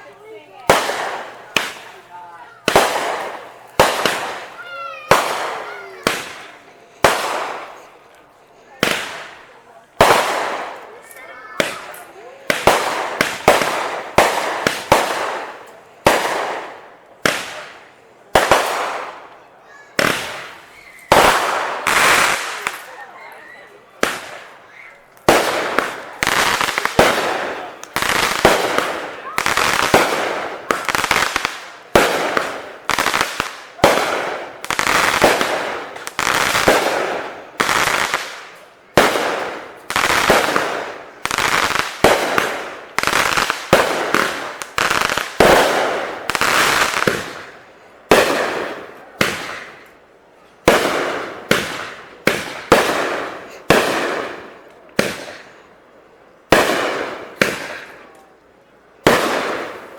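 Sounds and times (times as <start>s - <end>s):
fireworks banging: 0.0s - 50.0s, 50.6s - 55.7s, 56.5s - 58.1s, 59.0s - 59.9s.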